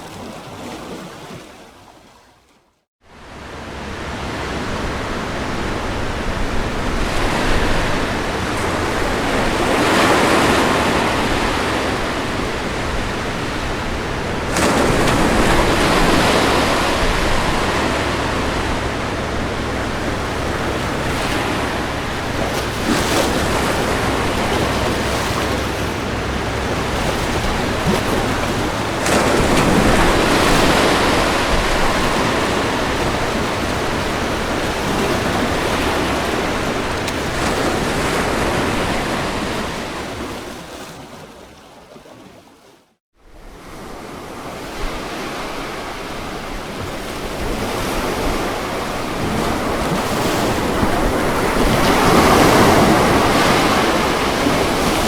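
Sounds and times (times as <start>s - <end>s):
ocean waves breaking on beach: 0.0s - 2.3s, 3.0s - 55.0s.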